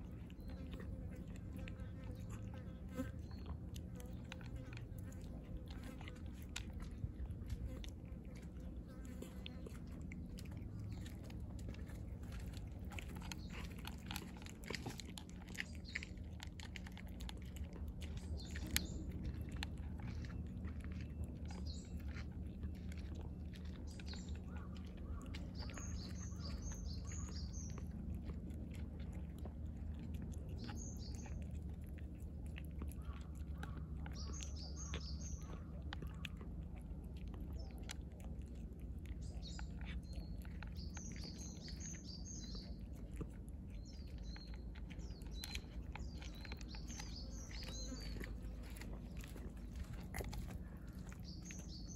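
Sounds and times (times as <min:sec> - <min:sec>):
cat chewing crunchy food: 0:00.0 - 0:51.9
small birds chirping: 0:00.0 - 0:51.9.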